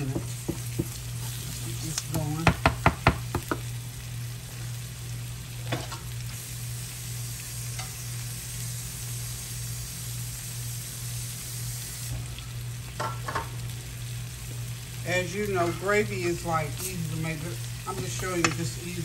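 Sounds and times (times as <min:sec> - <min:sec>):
roux sizzling in a frying pan: 0:00.0 - 0:19.0.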